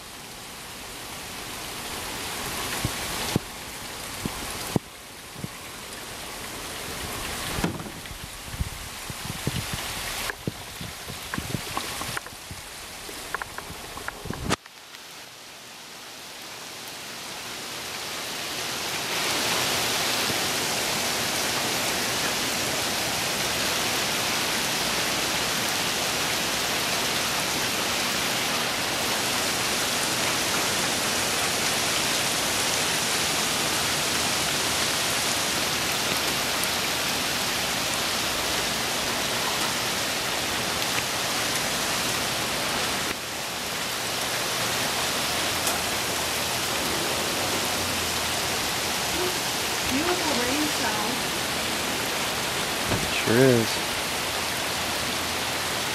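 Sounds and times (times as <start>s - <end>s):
heavy rain on water: 0.0s - 55.9s.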